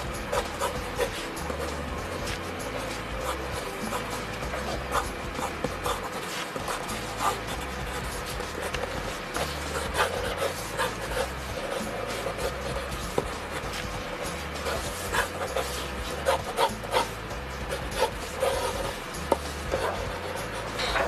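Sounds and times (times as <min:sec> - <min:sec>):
pencil sketching on paper: 0:00.0 - 0:21.0.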